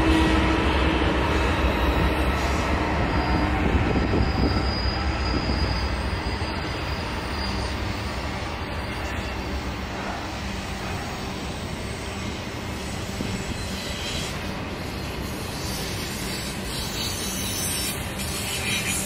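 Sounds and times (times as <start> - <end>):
train wheels rumbling on rail: 0.0 - 19.0
high wheel squeal: 1.4 - 10.6, 11.3 - 19.0.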